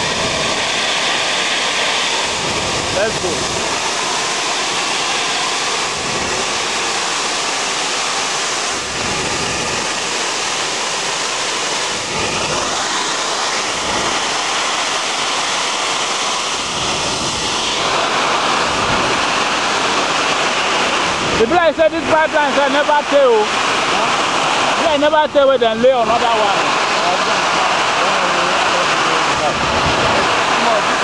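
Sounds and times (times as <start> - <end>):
gas hissing from pipeline leak: 0.0 - 31.0.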